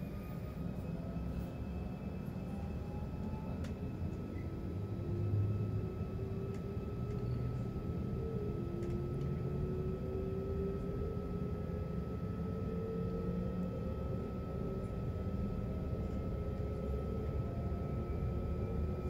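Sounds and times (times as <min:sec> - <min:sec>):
faint rising whine: 0:00.0 - 0:19.0.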